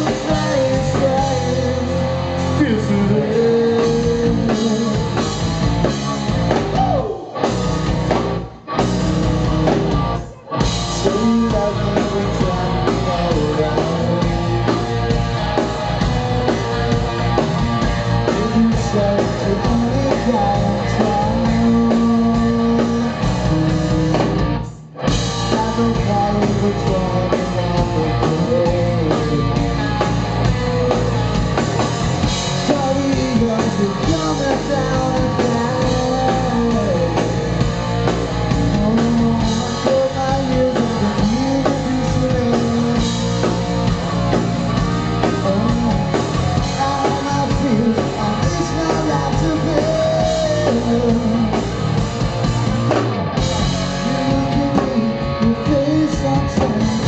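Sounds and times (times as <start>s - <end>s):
lead singer singing: 0.0s - 7.6s, 8.7s - 24.6s, 25.4s - 31.4s, 32.2s - 57.0s
bass guitar: 0.0s - 57.0s
drum kit: 0.0s - 57.0s
electric guitar: 0.0s - 57.0s.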